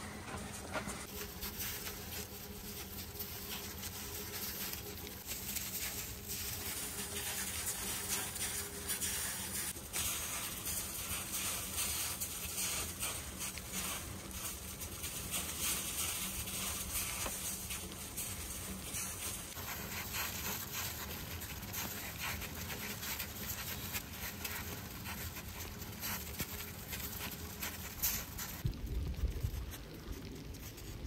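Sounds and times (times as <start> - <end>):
wind and blowing snow hissing: 0.9 - 31.0.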